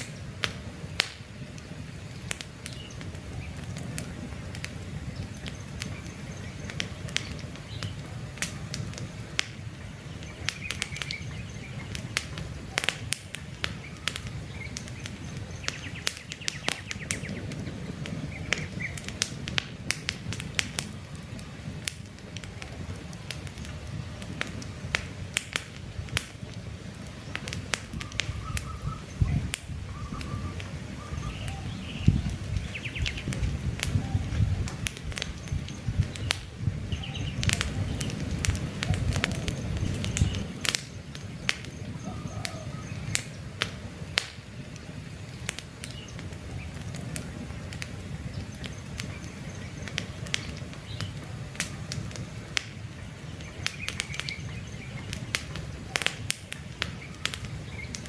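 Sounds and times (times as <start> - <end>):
birds chirping: 0.0 - 19.3, 26.4 - 58.0
campfire crackling and popping: 0.0 - 58.0.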